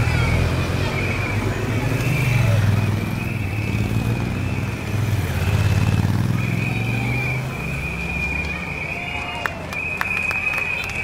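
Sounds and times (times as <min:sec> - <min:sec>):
motorcycles and cars passing: 0:00.0 - 0:11.0.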